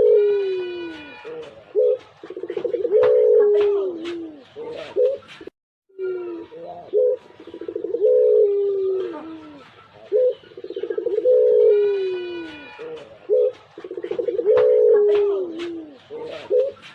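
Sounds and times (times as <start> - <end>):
dove cooing: 0.0 - 5.4, 6.0 - 16.9.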